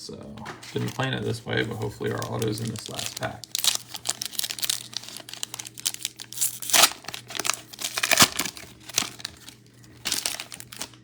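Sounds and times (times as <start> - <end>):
foil wrapper crinkling and tearing: 0.7 - 11.0.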